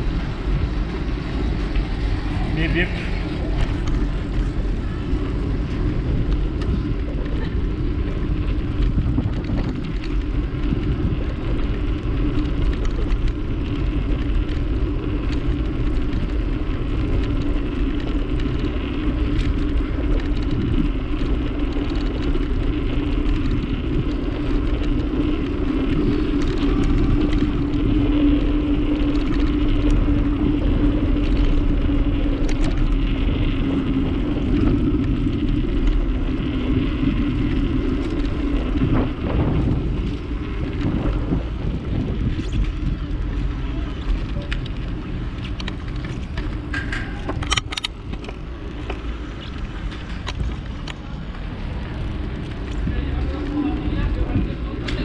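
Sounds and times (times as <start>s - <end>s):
bicycle tyre noise: 0.0s - 55.0s
low hum: 0.0s - 55.0s
wind on microphone: 0.0s - 55.0s.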